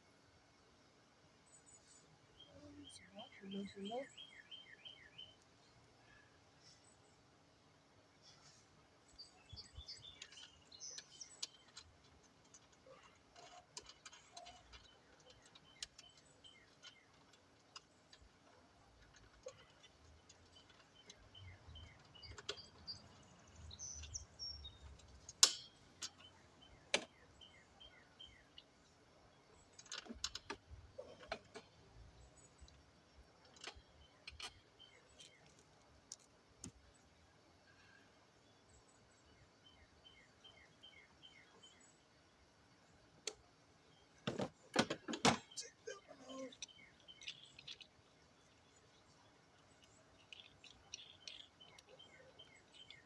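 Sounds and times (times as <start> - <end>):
birds chirping: 1.3 - 53.0.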